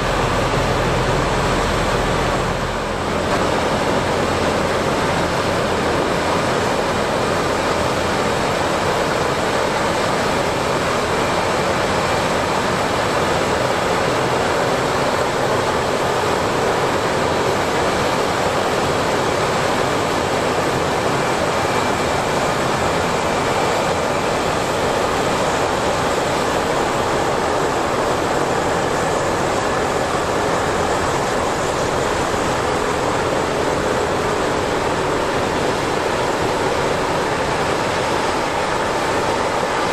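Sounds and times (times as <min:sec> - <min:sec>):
hovercraft engines rushing: 0:00.0 - 0:39.9.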